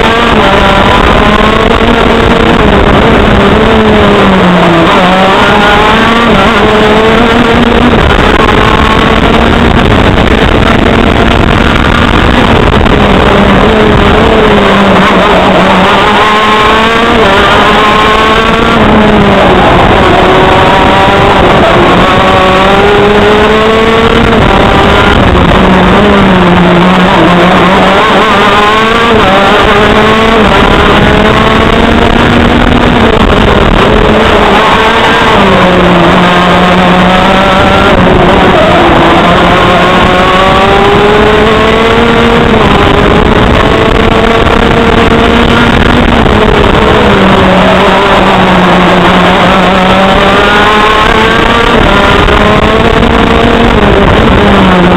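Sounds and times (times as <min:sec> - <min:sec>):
kart engine revving: 0:00.0 - 0:54.9.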